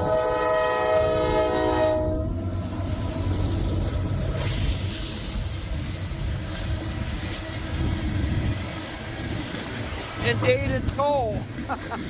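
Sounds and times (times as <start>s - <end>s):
train rumbling past: 0.0s - 12.0s
wind buffeting microphone: 0.0s - 12.0s.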